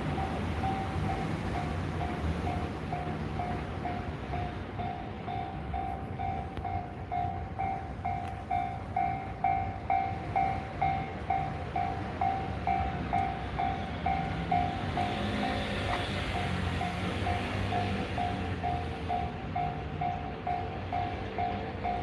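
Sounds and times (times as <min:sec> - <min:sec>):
level-crossing warning bell: 0:00.0 - 0:22.0
train rumbling past: 0:00.0 - 0:22.0.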